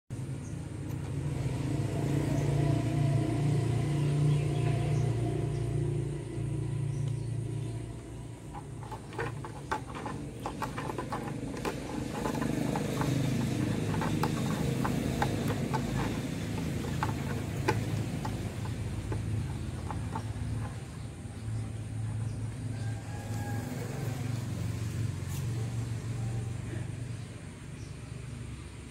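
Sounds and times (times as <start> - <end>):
engine rumbling: 0.1 - 28.9.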